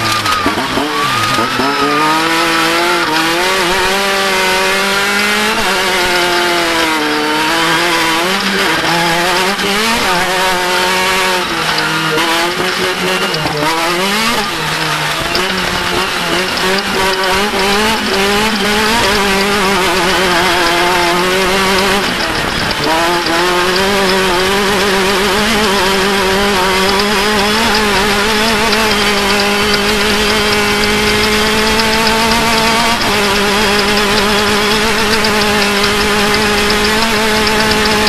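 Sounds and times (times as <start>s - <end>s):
race vehicle engine revving: 0.0s - 38.0s.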